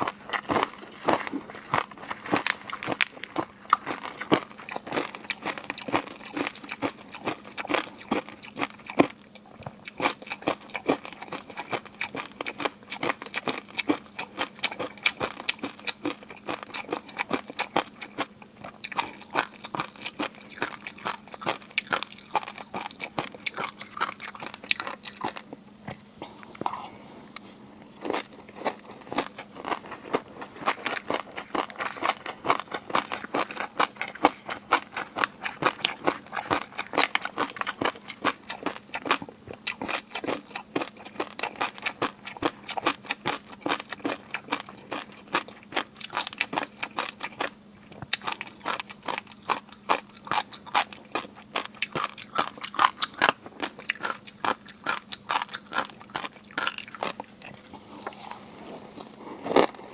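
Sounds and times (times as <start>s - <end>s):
person chewing and crunching food: 0.0s - 59.9s.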